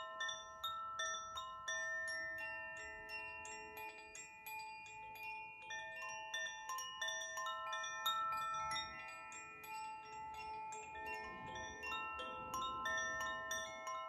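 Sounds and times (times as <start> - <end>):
bamboo wind chimes: 0.0 - 14.0.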